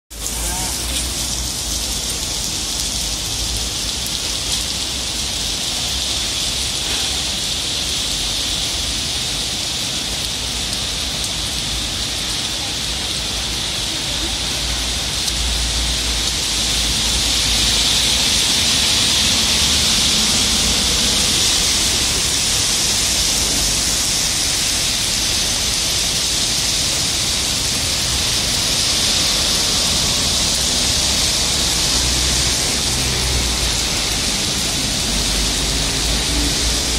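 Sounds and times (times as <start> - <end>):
heavy rain on street: 0.1 - 36.9.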